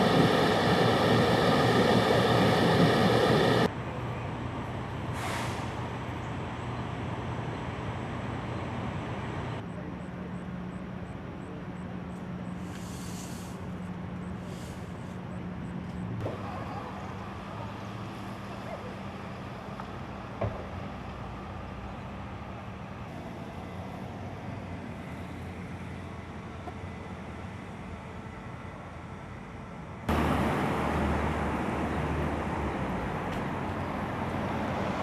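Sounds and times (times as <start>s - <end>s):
engine humming: 0.0s - 5.1s, 5.8s - 35.0s
outdoor noise: 0.0s - 35.0s.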